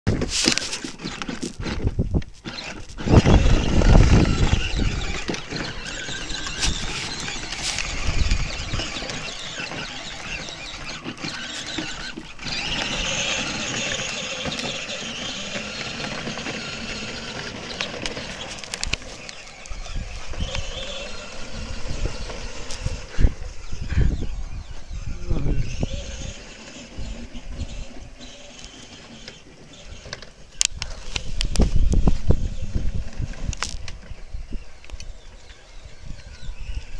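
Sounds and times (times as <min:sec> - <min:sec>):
toy electric motors whining: 0:00.2 - 0:36.9.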